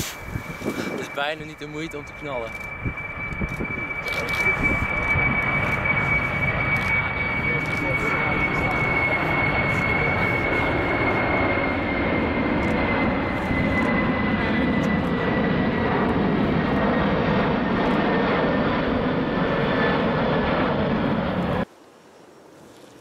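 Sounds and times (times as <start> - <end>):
high jet whine falling in pitch: 0.0 - 21.7
jet engines rumbling: 0.0 - 21.7.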